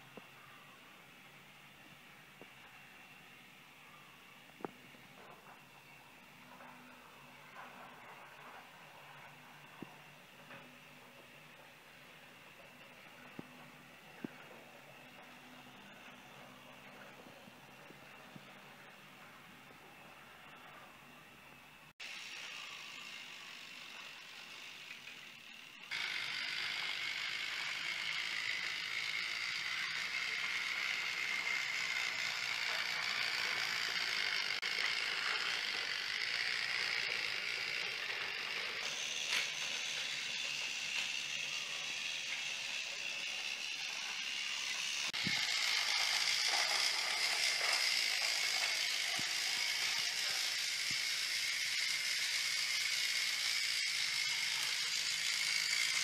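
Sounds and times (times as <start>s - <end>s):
toy train motor whine: 0.0s - 56.0s
toy wheels rattling on track: 2.4s - 19.3s, 22.0s - 56.0s.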